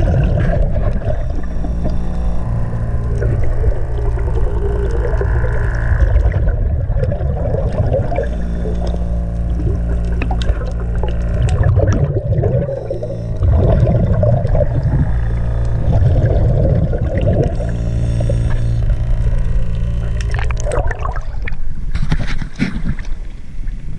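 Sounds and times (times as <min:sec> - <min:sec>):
low hum: 0:00.0 - 0:23.9
underwater bubbling and gurgling: 0:00.0 - 0:23.9.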